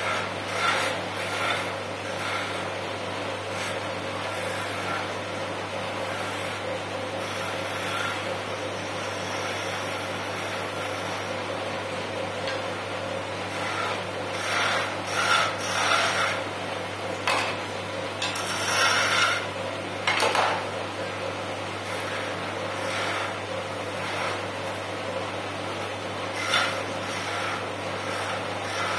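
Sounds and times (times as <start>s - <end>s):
wood lathe humming: 0.0s - 16.7s, 18.2s - 19.6s, 21.5s - 28.9s
chisel scraping spinning wood: 0.0s - 17.6s, 18.2s - 20.7s, 21.5s - 28.9s.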